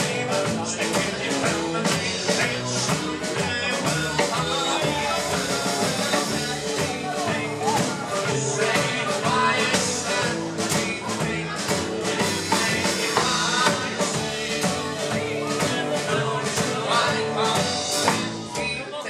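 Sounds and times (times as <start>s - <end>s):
live country-rock band: 0.0s - 19.0s
person singing: 0.0s - 19.0s.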